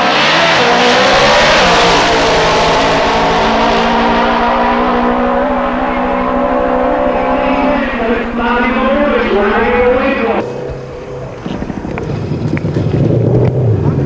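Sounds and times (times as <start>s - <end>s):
drag racing motorcycle engine: 0.0s - 14.0s.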